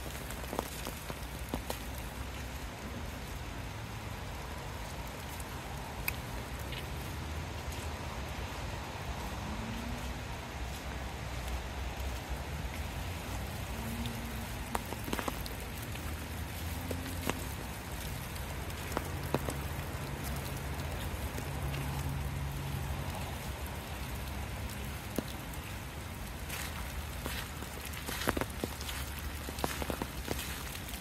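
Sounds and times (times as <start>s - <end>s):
sharp raindrop ticks: 0.0s - 8.6s, 11.3s - 31.0s
rain falling on trees: 0.0s - 31.0s.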